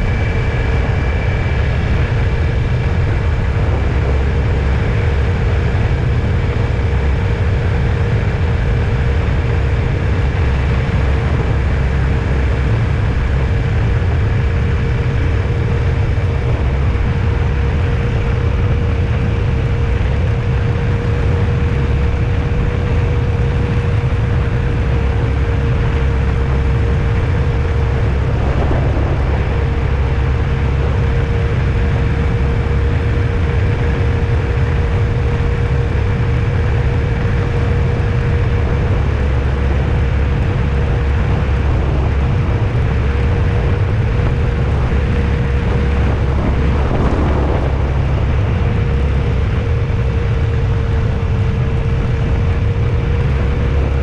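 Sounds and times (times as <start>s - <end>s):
constant hum: 0.0s - 54.0s
vehicle road and engine rumble: 0.0s - 54.0s.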